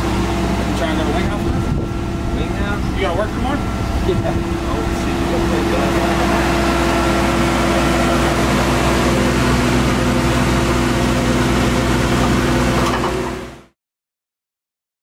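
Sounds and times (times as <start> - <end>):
engine idling: 0.0 - 13.7.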